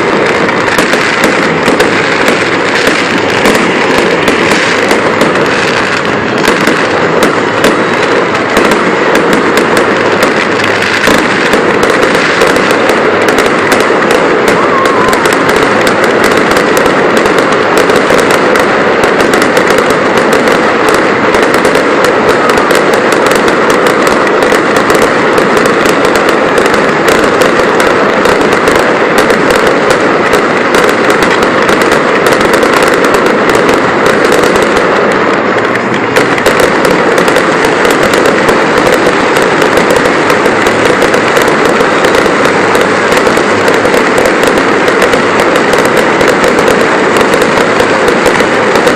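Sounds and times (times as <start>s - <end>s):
fireworks crackling and banging: 0.0s - 48.9s.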